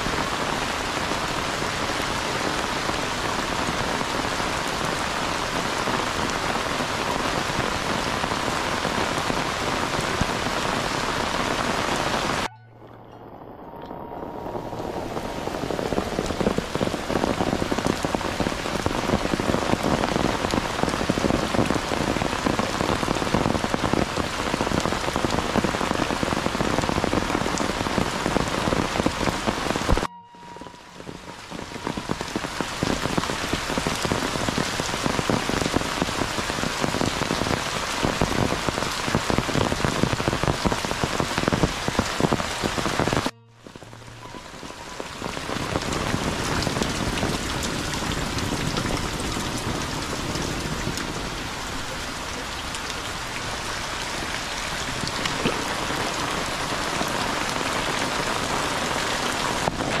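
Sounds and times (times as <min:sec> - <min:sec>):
heavy rain on roofs: 0:00.0 - 0:12.5, 0:13.9 - 0:30.1, 0:30.8 - 1:00.0.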